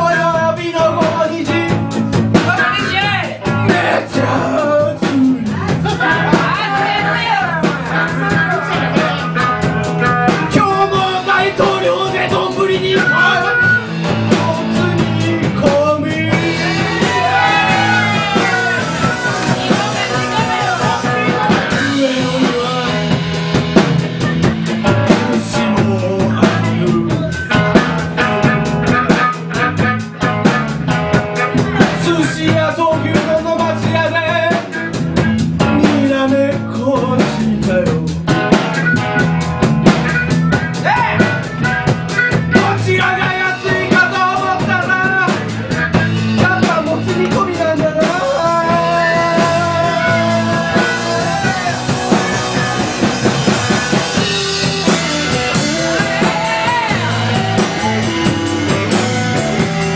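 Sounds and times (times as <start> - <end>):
man singing: 0.0 - 39.0, 40.7 - 59.9
blues-rock band playing: 0.0 - 59.9.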